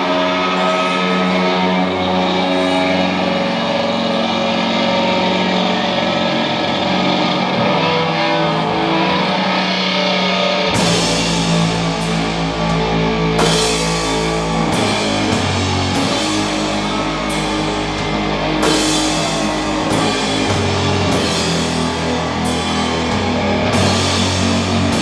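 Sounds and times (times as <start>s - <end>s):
distorted guitars and bass chords: 0.0s - 25.0s
drums: 0.0s - 25.0s.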